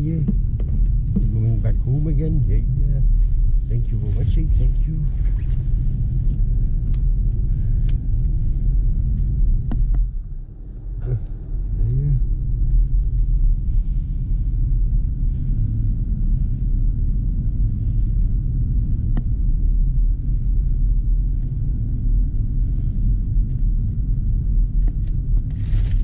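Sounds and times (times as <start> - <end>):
road and tyre noise: 0.0 - 26.0.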